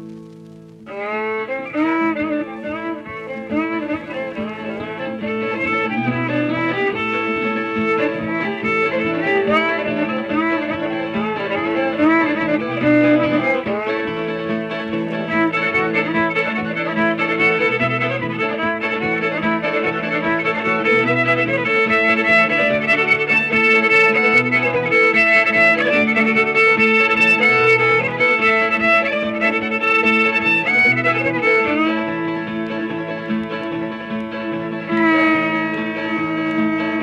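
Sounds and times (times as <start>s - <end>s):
fiddle playing lead: 0.0s - 37.0s
guitar: 0.0s - 37.0s.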